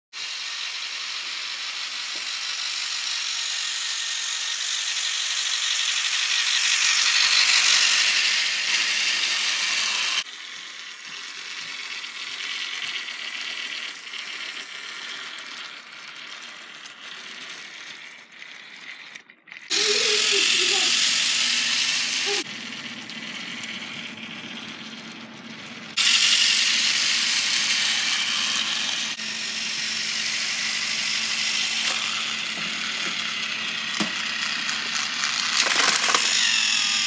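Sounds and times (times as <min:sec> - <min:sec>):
toy train motor whirring: 0:00.1 - 0:37.0.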